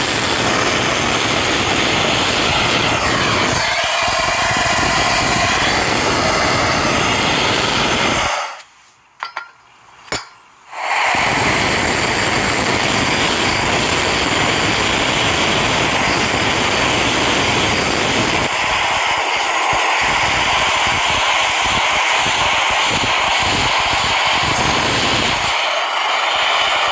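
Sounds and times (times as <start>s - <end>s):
gas torch flame blowing: 0.0s - 8.7s, 10.7s - 26.9s.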